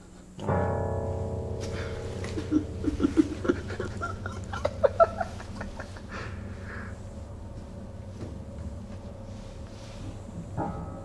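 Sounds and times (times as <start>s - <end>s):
upright piano playing: 0.4s - 11.0s.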